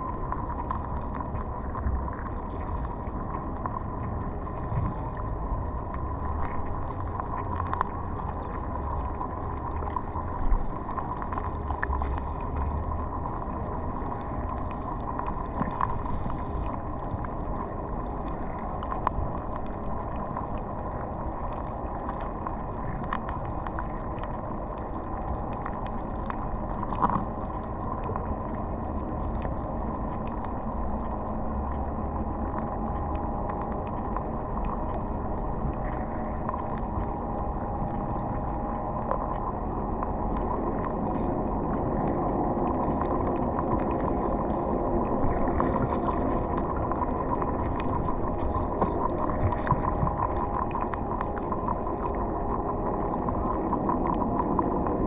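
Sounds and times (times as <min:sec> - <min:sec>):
low rumble: 0:00.0 - 0:55.0
underwater water wash: 0:00.0 - 0:55.0.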